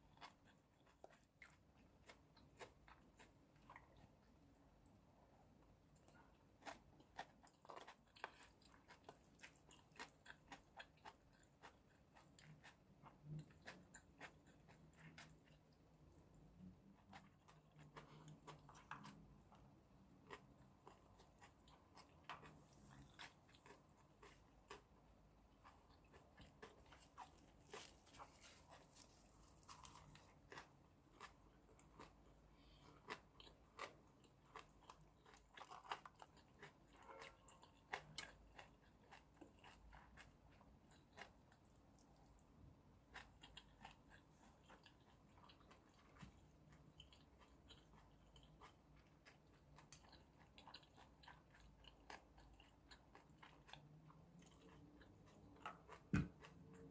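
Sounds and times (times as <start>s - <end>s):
person crunching and chewing: 0.1s - 4.4s, 5.9s - 42.4s, 43.0s - 56.9s.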